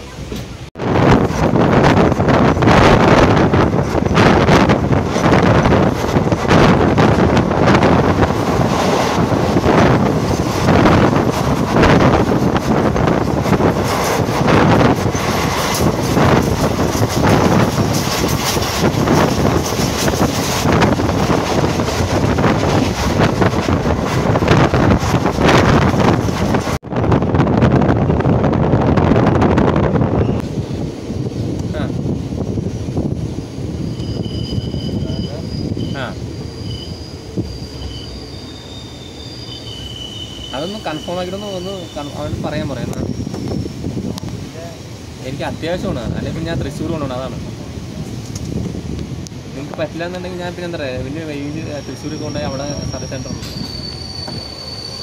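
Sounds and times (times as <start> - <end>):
wind buffeting microphone: 0.0 - 38.0, 41.6 - 54.6
train wheel and running noise: 0.0 - 55.0.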